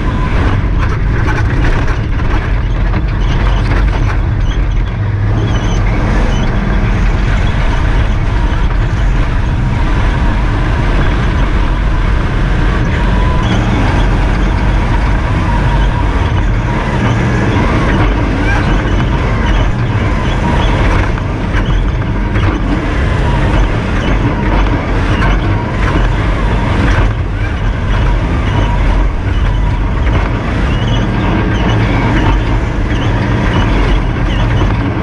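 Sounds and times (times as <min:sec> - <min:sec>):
knocks and rattles clattering: 0:00.0 - 0:35.0
rally car cabin noise: 0:00.0 - 0:35.0.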